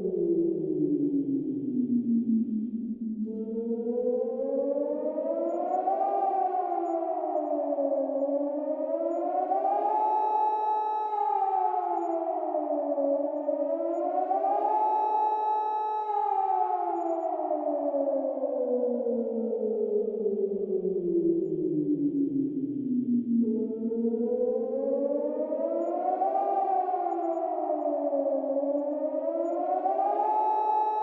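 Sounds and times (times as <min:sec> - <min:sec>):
warning siren wailing: 0:00.0 - 0:31.0.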